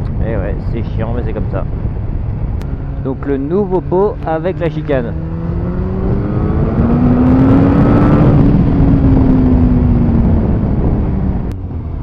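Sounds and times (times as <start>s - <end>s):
wind noise on microphone: 0.0s - 12.0s
motorcycle engine revving: 2.0s - 12.0s.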